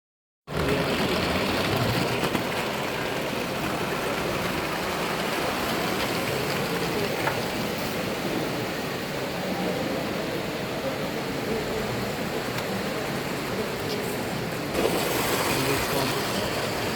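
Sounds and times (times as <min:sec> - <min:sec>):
miniature train rumbling: 0:00.5 - 0:09.4, 0:10.0 - 0:16.9.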